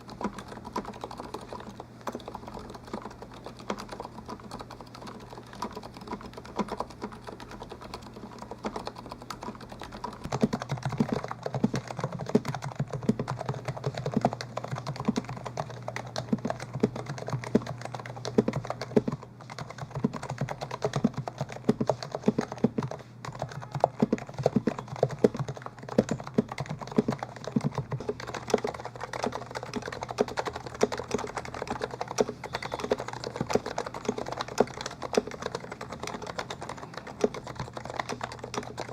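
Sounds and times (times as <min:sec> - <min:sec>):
faint steady hum: 0:00.0 - 0:38.9
fast keyboard typing: 0:00.0 - 0:38.9.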